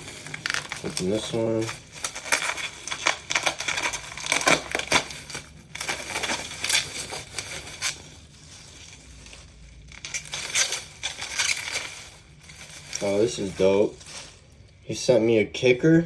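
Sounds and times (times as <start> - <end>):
packaging crinkling and rustling: 0.0 - 14.9.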